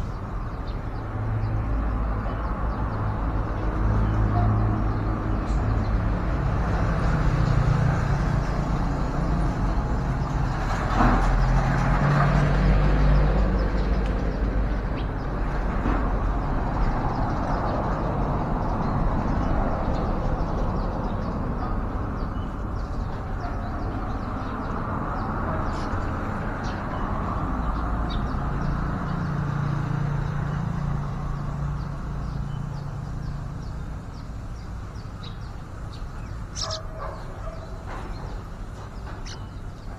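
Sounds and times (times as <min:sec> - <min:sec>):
passing vehicle engines: 0:00.0 - 0:39.9.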